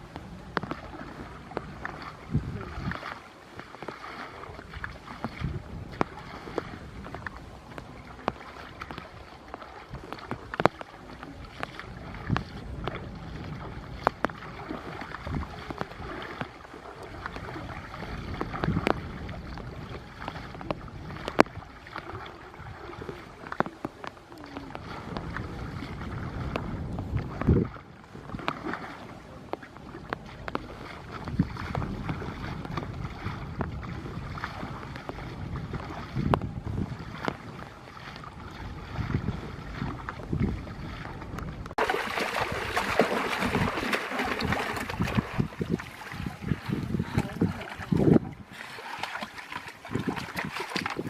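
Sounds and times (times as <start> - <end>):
water sloshing and splashing: 0.0 - 51.0.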